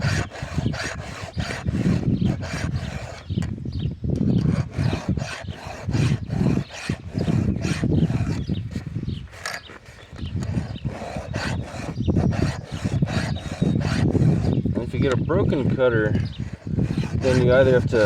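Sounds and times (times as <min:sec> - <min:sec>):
file rasping on chainsaw chain: 0:00.0 - 0:03.5, 0:04.2 - 0:18.0.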